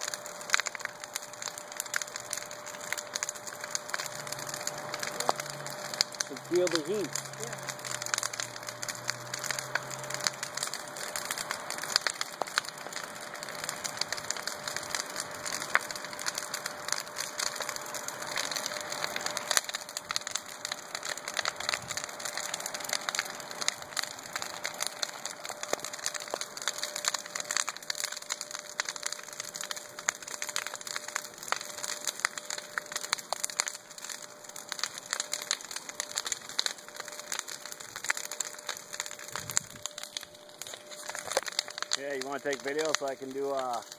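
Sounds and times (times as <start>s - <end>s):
bonfire crackling and popping: 0.0s - 43.9s
fire rushing hiss: 0.0s - 43.9s.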